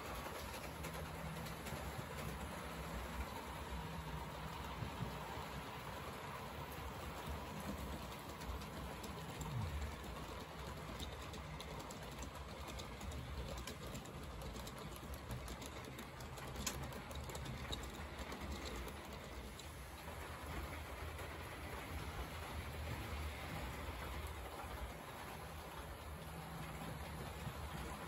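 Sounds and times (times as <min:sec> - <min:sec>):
model train running: 0:00.0 - 0:28.0
wheels clicking over track: 0:00.0 - 0:28.0.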